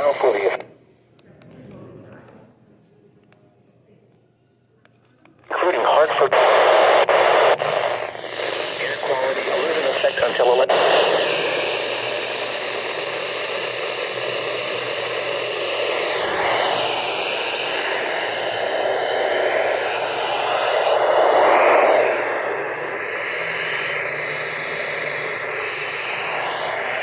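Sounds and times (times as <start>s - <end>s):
radio static hiss: 0.0s - 0.7s, 5.4s - 27.0s.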